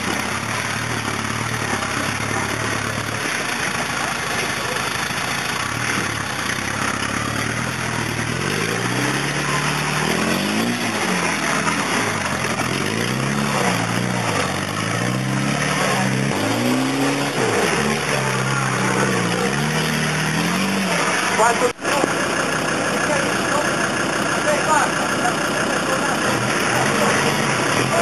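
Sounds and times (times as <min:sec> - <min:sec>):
pickup engine revving: 0:00.0 - 0:28.0
wheels churning mud and water: 0:00.0 - 0:28.0.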